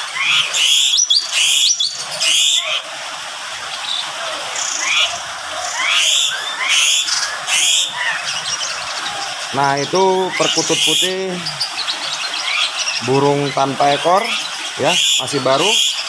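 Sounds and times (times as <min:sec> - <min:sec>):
birds chirping and whistling: 0:00.0 - 0:02.8, 0:03.7 - 0:16.0.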